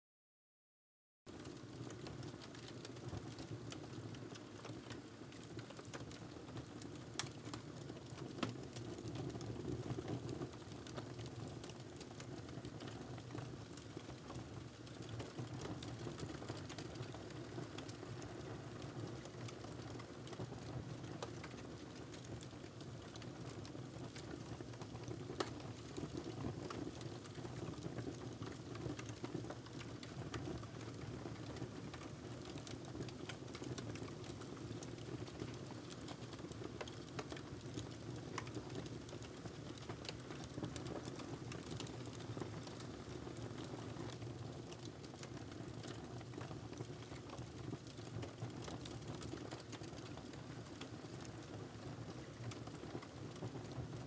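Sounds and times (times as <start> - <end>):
wood fire crackling: 1.3 - 54.0.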